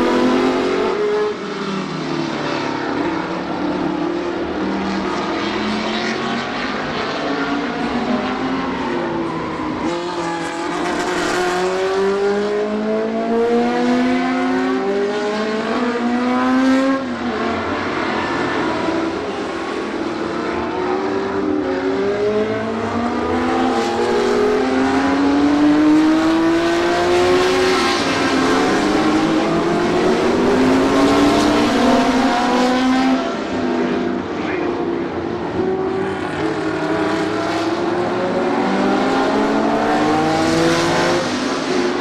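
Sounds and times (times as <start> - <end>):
racing car engines accelerating: 0.0 - 42.0.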